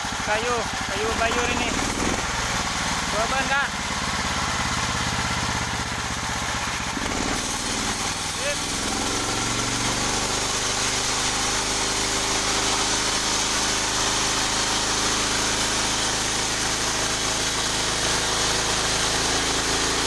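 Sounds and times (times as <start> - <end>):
saw cutting wood: 0.0 - 3.8, 4.5 - 20.0
engine drone: 0.0 - 20.0.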